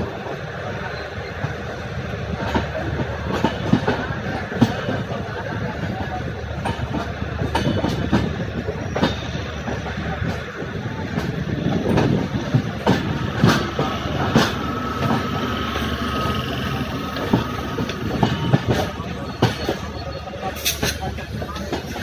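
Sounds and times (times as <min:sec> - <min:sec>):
train rumbling on rails: 0:00.0 - 0:22.0
wheels clacking over rail joints: 0:01.4 - 0:22.0.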